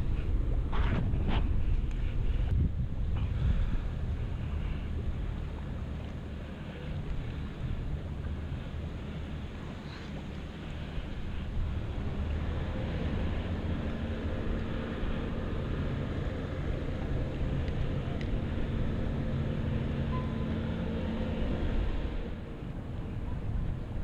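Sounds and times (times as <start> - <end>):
engine drone: 0.0 - 24.0
wind and water rumble: 0.0 - 24.0.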